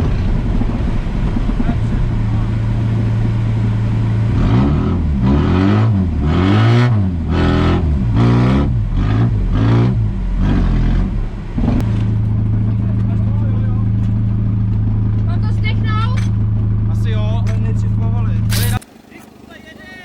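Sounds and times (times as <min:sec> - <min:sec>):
rally car engine idling and revving: 0:00.0 - 0:20.0.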